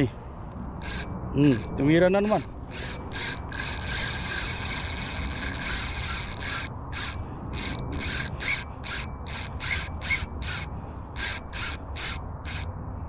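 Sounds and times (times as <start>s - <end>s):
wind rumble: 0.0s - 13.0s
fishing reel whirring: 0.7s - 12.8s.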